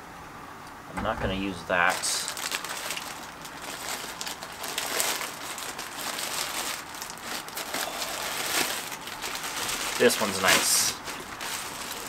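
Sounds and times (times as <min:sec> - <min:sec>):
plastic bag crinkling: 0:01.7 - 0:12.0.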